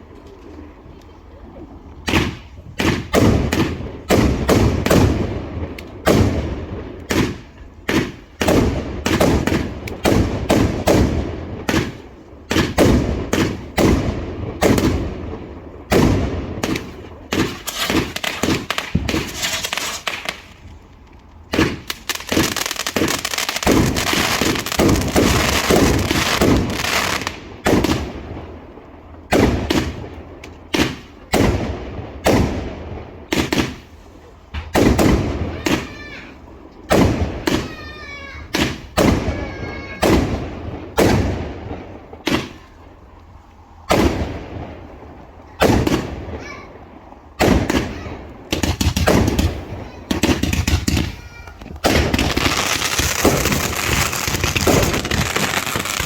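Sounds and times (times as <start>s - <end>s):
continuous firework crackling: 0.0s - 56.0s
loud firework bangs: 2.0s - 20.7s, 21.5s - 43.1s, 43.8s - 56.0s.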